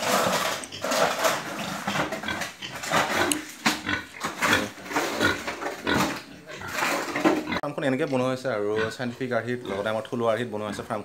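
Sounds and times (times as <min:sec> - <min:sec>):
pigs grunting: 0:00.0 - 0:11.0.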